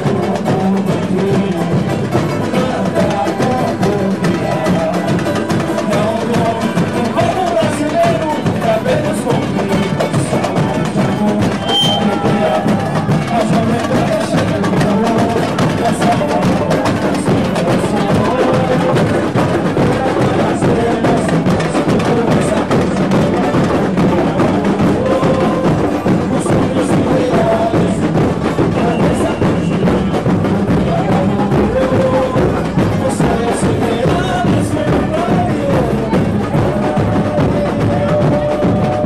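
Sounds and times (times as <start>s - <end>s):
clatter of snare drum strokes: 0.0s - 39.0s
deep bass drums: 0.0s - 39.0s.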